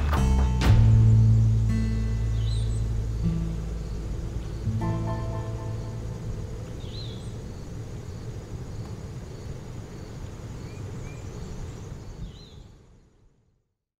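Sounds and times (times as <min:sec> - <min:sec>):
steady low rumble: 0:00.0 - 0:12.9
bird chirping: 0:00.8 - 0:13.0
insect chirring: 0:00.8 - 0:13.0.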